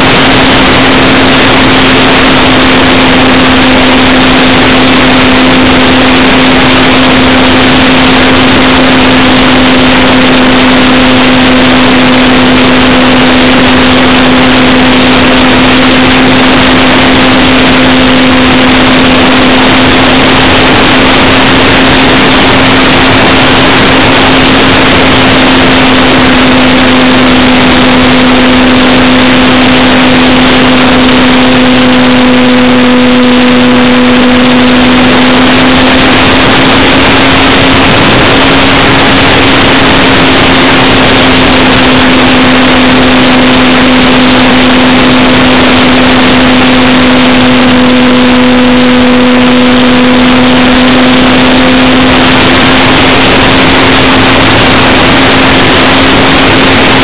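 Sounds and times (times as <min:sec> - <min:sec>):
electric motor and propeller whine: 0:00.0 - 0:57.0
rushing airflow noise: 0:00.0 - 0:57.0.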